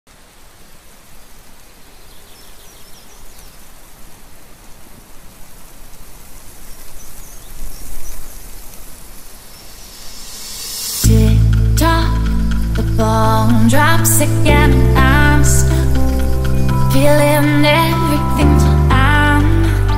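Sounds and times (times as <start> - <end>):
rushing outdoor ambient noise: 0.1 - 19.9.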